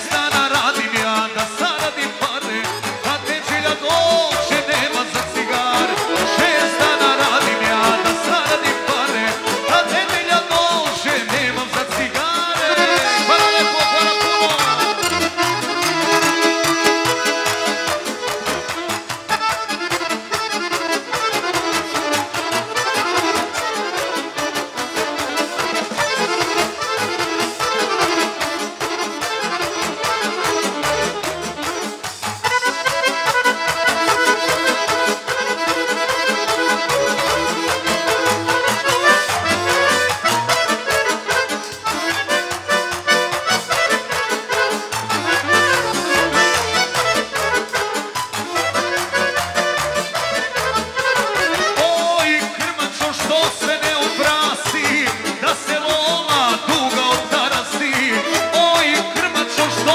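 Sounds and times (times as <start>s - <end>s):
folk band with accordion: 0.0s - 59.9s.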